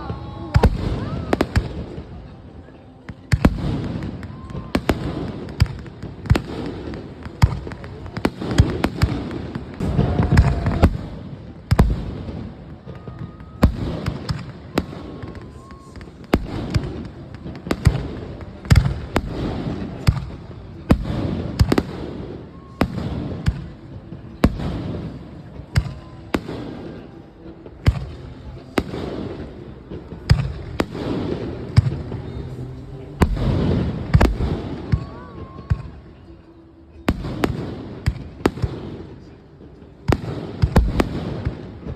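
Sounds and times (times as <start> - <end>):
fireworks bangs and booms: 0.0 - 41.9.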